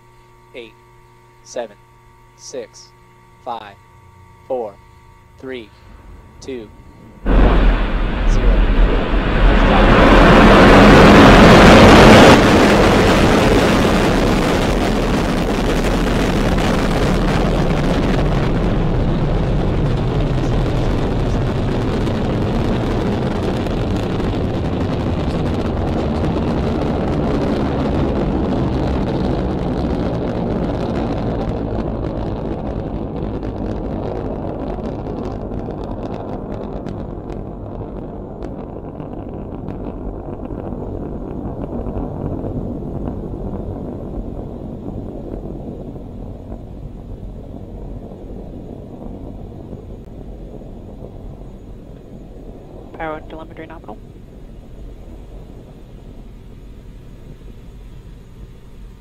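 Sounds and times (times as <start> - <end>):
rocket engine roar: 3.5 - 59.0.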